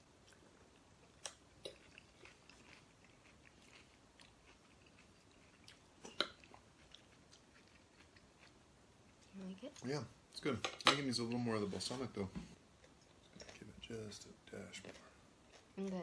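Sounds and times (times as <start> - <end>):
faint chewing: 0.2 - 9.9, 11.2 - 16.0.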